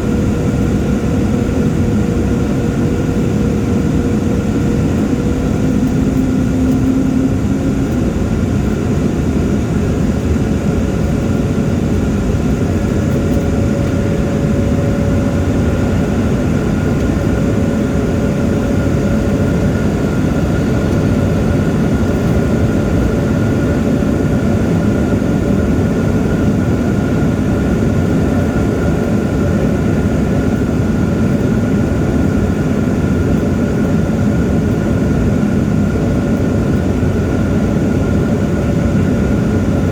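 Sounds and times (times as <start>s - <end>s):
jet engines and airflow roar: 0.0s - 39.9s.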